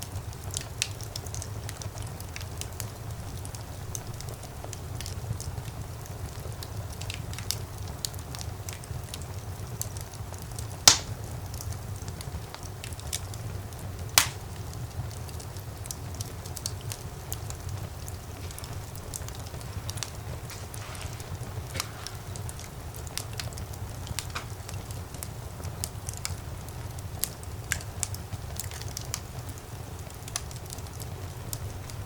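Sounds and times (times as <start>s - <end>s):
fire crackling: 0.0s - 32.0s
fire flames rumbling: 0.0s - 32.0s
fire popping: 0.0s - 32.0s.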